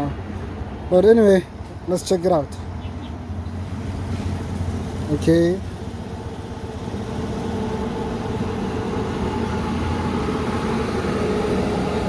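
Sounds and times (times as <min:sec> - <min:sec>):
street traffic drone: 0:00.0 - 0:12.0.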